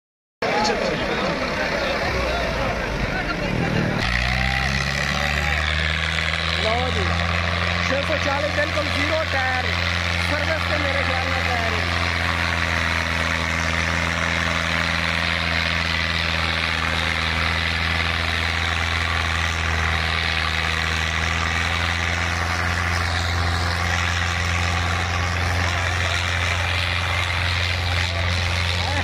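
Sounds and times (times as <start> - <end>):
tractor diesel engine under load: 0.4 - 29.0.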